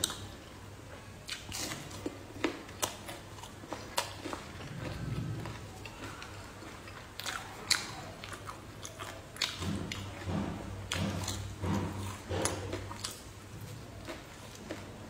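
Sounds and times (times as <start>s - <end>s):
chewing: 0.0s - 15.0s
crunching fried food: 1.2s - 15.0s.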